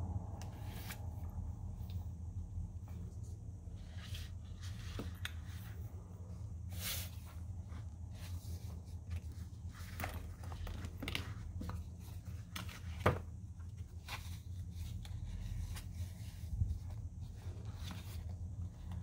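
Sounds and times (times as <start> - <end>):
low steady hum: 0.0 - 19.0
notebook and cards being handled: 0.4 - 2.0, 2.7 - 19.0.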